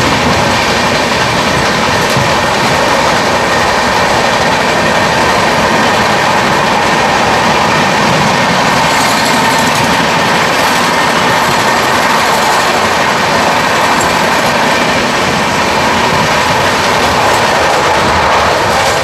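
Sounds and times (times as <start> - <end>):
second train passing alongside: 0.0 - 19.0
train wheel and rail noise: 0.0 - 19.0
wind rushing: 0.0 - 19.0.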